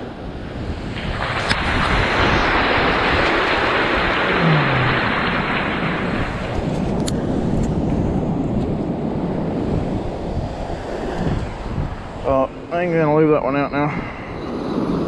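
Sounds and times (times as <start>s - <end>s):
surf washing up beach: 0.0s - 15.0s
wind rumbling on microphone: 0.0s - 15.0s.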